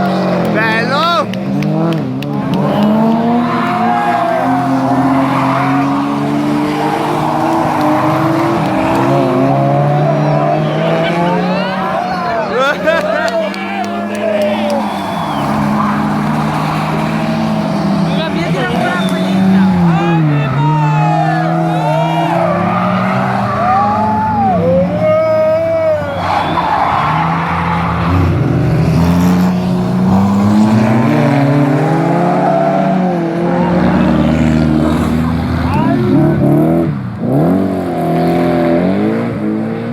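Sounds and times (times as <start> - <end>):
rally car engine revving hard: 0.0 - 25.0, 25.6 - 39.9.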